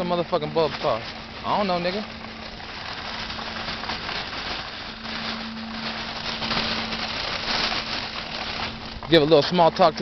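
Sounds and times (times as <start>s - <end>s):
car interior hum and rumble: 0.0s - 10.0s
crackly rustle: 0.0s - 10.0s.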